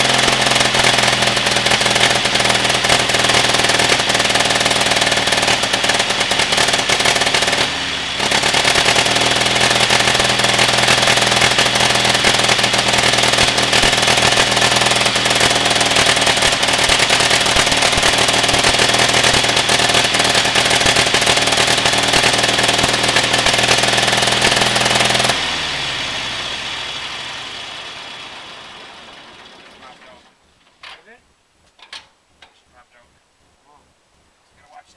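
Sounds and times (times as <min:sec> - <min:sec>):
crawler engine hammering: 0:00.0 - 0:31.0.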